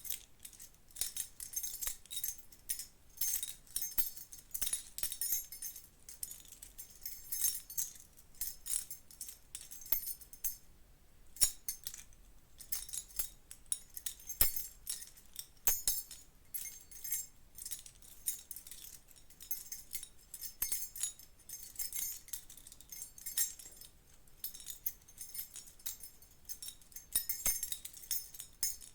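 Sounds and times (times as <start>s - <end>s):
metal keys jangling: 0.0s - 10.6s, 11.4s - 28.9s.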